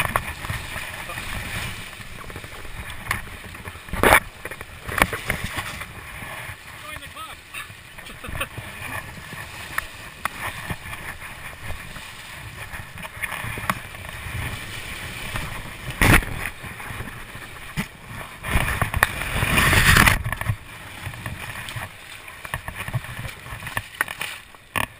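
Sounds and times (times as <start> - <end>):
river water rushing and splashing: 0.0 - 24.9.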